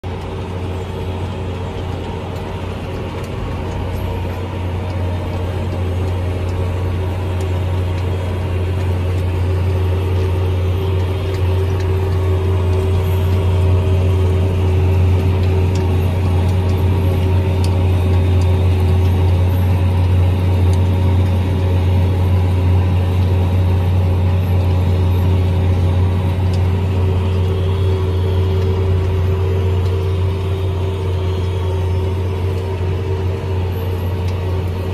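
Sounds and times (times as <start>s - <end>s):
tractor engine droning: 0.0s - 34.9s.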